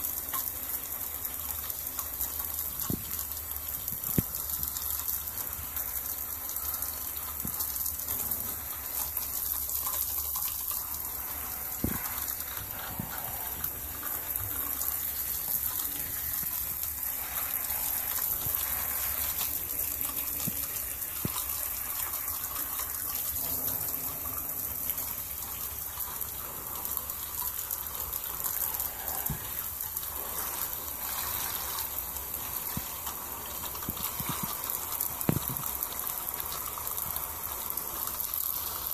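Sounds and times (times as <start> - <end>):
shower spray splashing: 0.0 - 38.9.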